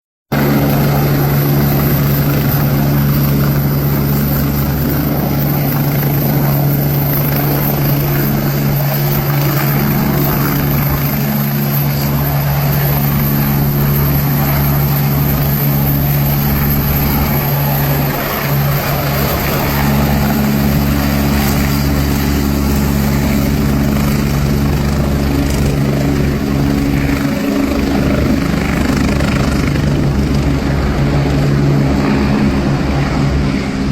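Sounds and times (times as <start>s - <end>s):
helicopter rotor drone: 0.3s - 33.9s
low hum: 0.4s - 33.9s.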